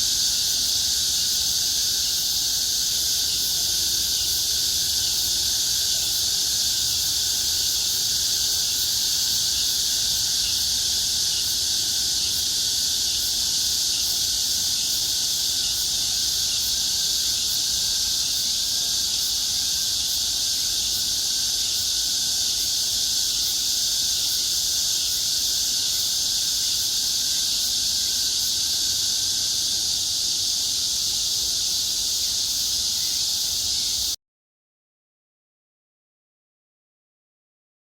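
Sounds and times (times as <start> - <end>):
cicadas buzzing: 0.0 - 34.2.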